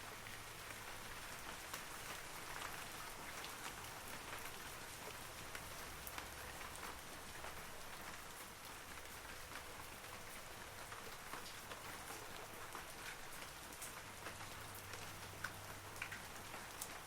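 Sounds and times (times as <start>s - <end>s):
rain falling on trees: 0.0s - 17.0s.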